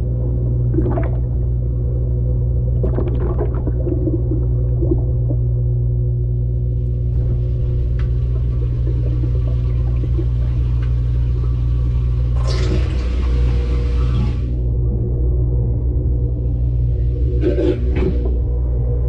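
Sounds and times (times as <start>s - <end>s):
washing machine hum and rumble: 0.0s - 19.0s.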